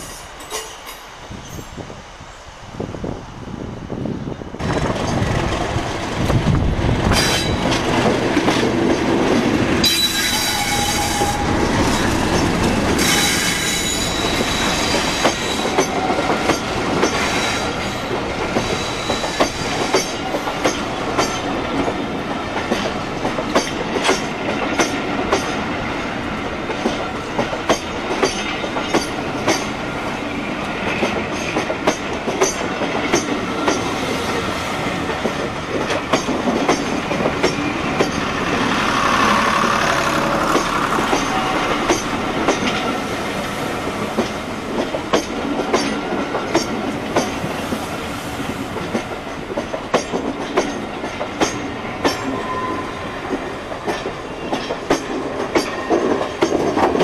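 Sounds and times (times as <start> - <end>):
train running rumble: 0.0 - 57.0
train wheels clicking over rail joints: 4.6 - 52.5, 53.2 - 57.0.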